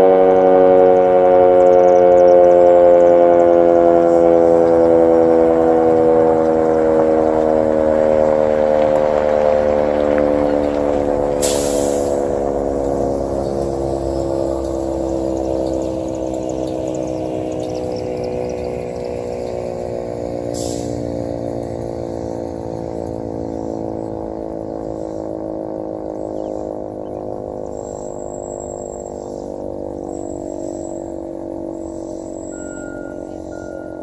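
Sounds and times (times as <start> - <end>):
warning siren winding down: 0.0 - 34.0.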